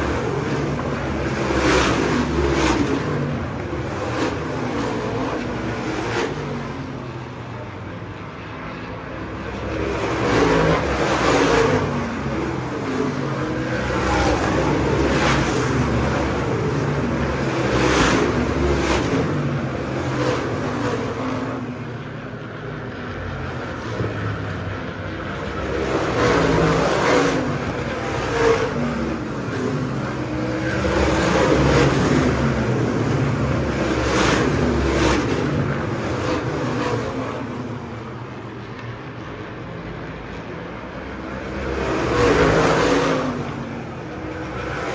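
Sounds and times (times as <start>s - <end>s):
race car engines passing: 0.0s - 44.9s.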